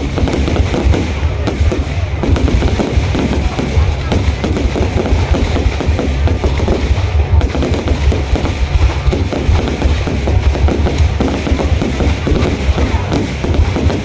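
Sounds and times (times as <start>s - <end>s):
fireworks booms rumbling: 0.0s - 14.0s
fireworks crackling: 0.0s - 14.0s.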